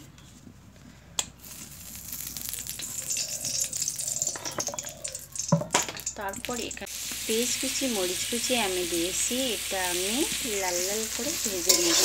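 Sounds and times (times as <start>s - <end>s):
oil sizzling and crackling: 1.3s - 12.0s.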